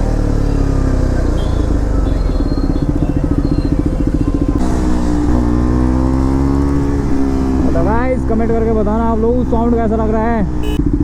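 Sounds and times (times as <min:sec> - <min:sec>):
motorcycle engine and exhaust: 0:00.0 - 0:11.0.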